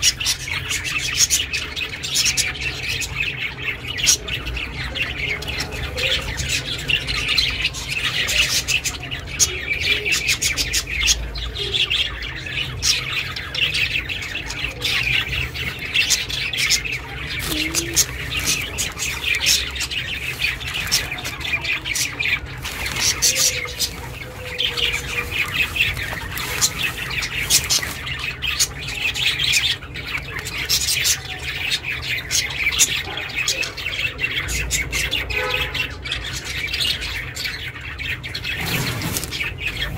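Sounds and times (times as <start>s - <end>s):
budgies chirping: 0.0s - 39.9s.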